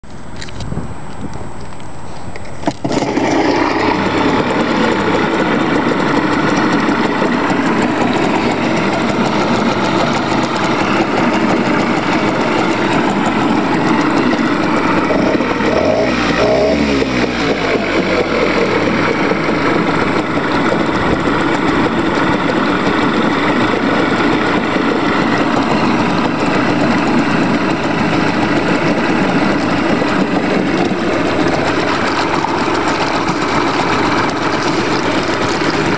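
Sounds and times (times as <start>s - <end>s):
propeller churning water: 0.0s - 35.9s
outboard motor running: 2.3s - 35.9s.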